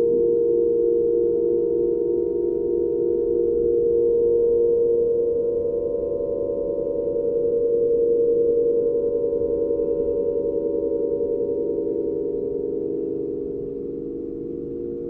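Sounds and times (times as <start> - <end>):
wind harp drone: 0.0 - 15.0.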